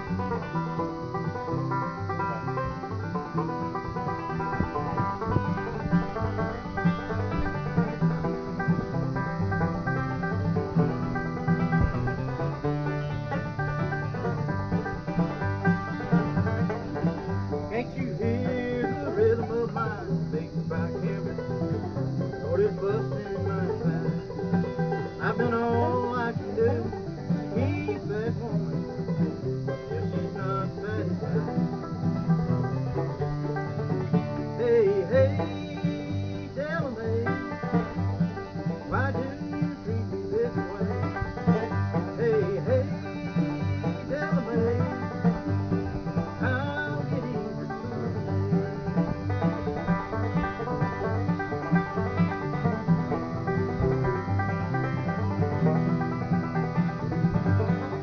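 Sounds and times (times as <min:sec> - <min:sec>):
mandolin: 0:00.0 - 0:58.0
picked banjo notes: 0:00.0 - 0:58.0
strummed acoustic guitar: 0:00.0 - 0:58.0.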